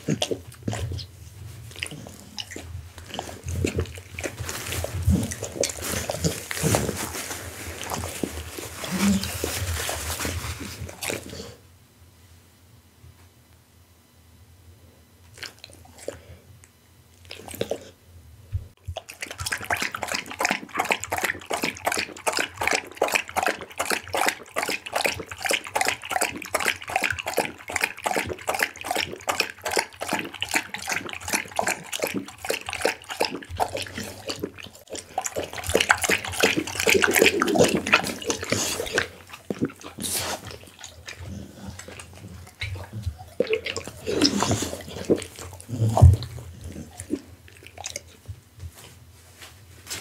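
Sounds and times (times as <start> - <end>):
dog lapping from glass bowl: 0.0 - 1.1, 1.7 - 11.3, 18.8 - 48.2.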